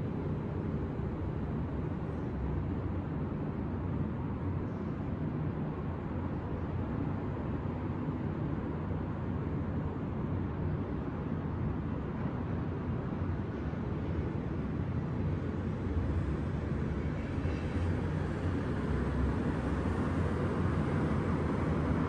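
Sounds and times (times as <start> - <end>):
distant city traffic rumble: 0.0 - 22.0.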